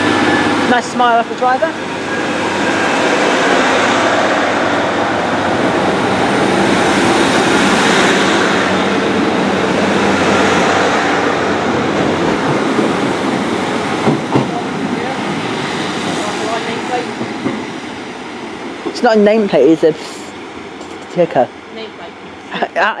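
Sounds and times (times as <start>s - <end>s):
train engine running: 0.0s - 23.0s
train wheels on rails: 0.0s - 23.0s.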